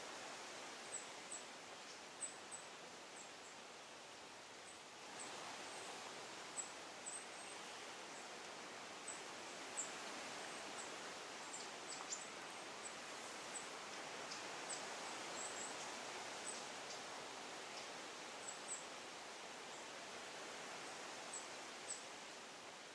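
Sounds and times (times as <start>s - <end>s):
wind through leaves: 0.0s - 22.9s.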